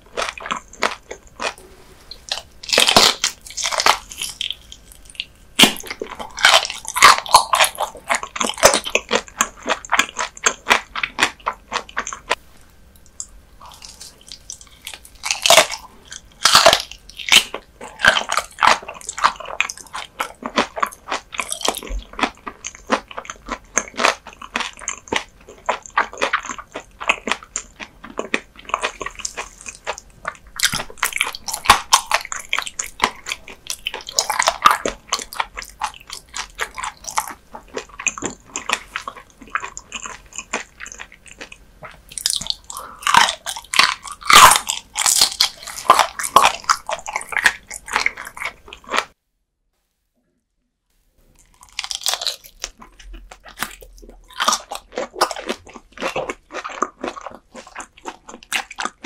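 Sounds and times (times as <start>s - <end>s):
crunching and chewing raw fish: 0.0s - 12.4s, 13.0s - 49.2s, 51.2s - 59.0s.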